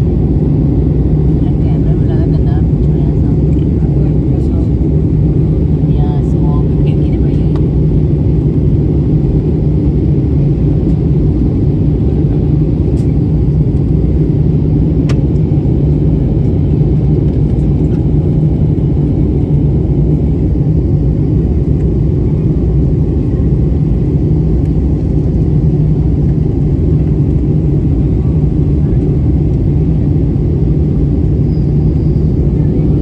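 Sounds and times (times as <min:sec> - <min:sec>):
jet airliner cabin rumble: 0:00.0 - 0:33.0.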